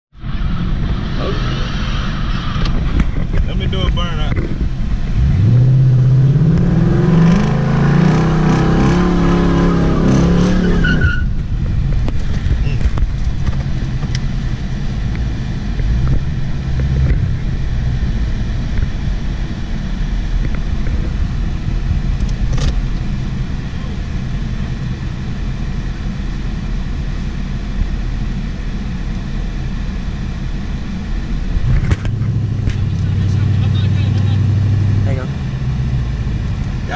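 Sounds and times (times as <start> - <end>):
car engine and road noise: 0.1 - 36.9.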